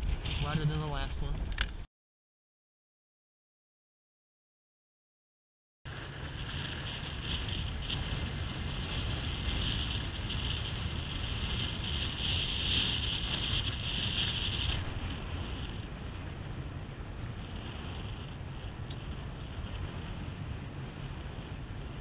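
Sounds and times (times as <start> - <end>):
wind buffeting microphone: 0.0 - 1.9, 5.9 - 22.0.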